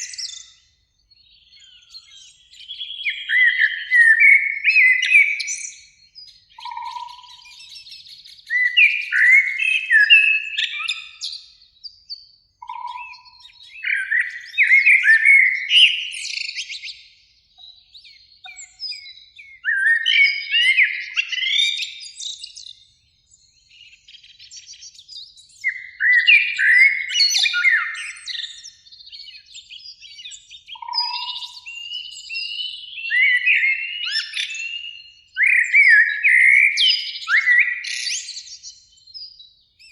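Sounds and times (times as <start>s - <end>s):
blackbird singing: 0.0s - 39.9s
faint bird song: 0.0s - 39.9s.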